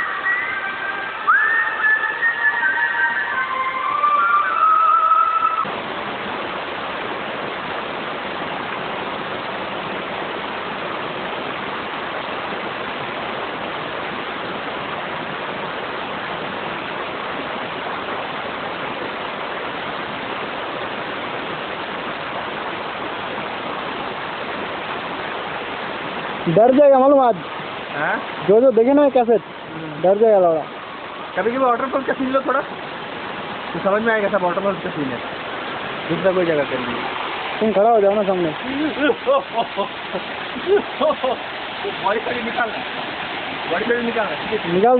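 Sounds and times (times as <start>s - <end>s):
waterfall stream flowing: 0.0s - 44.9s.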